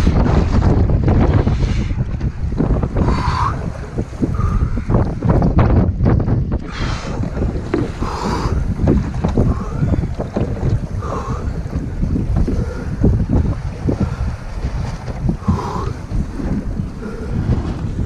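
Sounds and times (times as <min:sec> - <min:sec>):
water splashing against hull: 0:00.0 - 0:18.0
wind buffeting microphone: 0:00.0 - 0:18.0.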